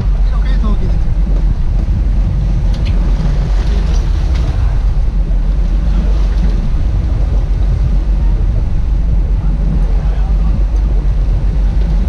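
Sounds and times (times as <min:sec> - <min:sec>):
boat engine drone: 0:00.0 - 0:12.0
wind buffeting microphone: 0:00.0 - 0:12.0.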